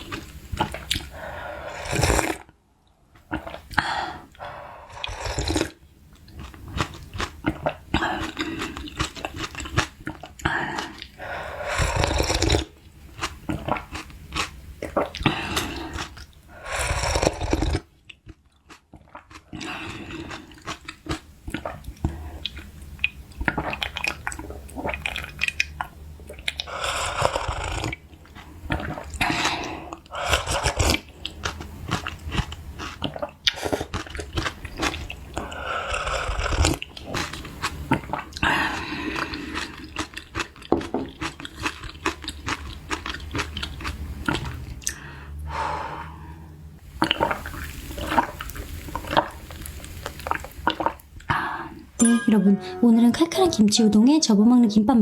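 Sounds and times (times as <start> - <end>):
chewing and crunching food: 0.0 - 45.6, 46.8 - 51.9.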